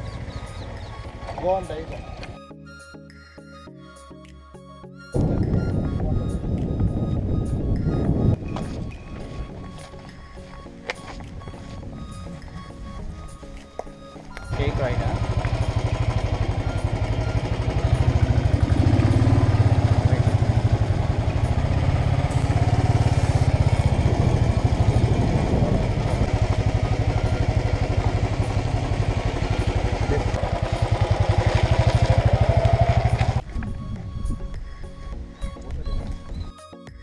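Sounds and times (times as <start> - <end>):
motorcycle engines running: 0.0 - 2.4, 5.2 - 33.8.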